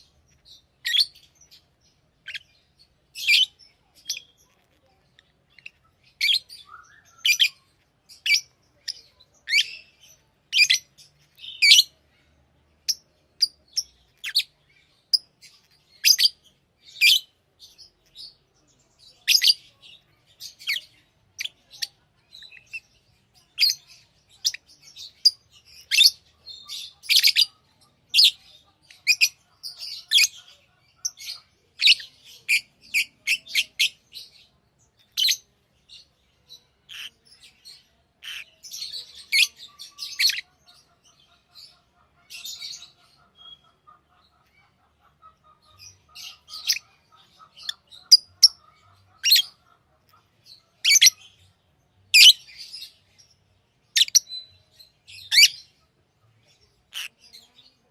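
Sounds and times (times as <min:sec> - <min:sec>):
lovebirds chirping: 0:00.0 - 0:57.9.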